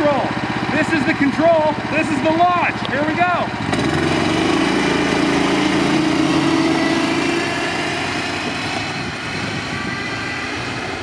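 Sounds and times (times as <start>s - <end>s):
track sled engine running: 0.0s - 11.0s.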